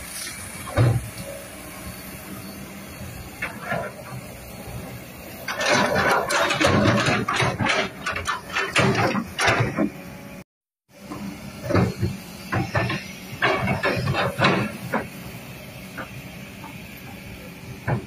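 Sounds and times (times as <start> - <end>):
excavator engine hum and hiss: 0.0 - 18.0
excavator knocks and clanks: 0.1 - 18.0.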